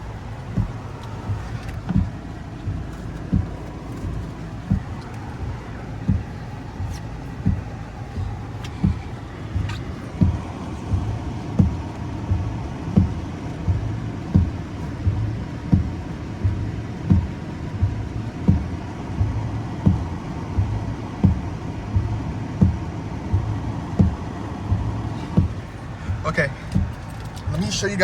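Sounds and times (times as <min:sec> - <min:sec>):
low hum inside car: 0:00.0 - 0:28.0
windshield wipers sweeping: 0:00.0 - 0:28.0.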